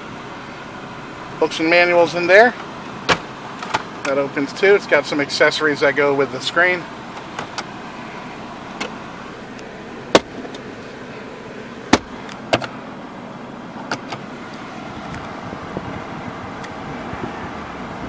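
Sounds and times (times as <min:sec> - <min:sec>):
air-conditioning fan hum: 0:00.0 - 0:18.0
car engine idling: 0:00.0 - 0:18.0.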